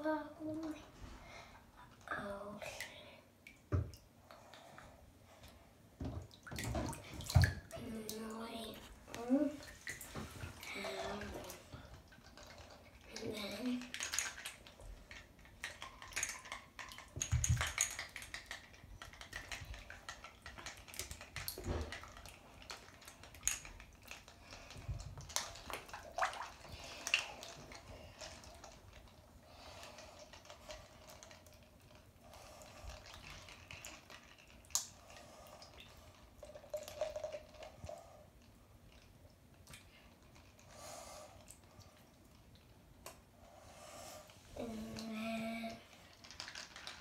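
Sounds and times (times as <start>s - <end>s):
bathwater sloshing and dripping: 0.0s - 47.0s.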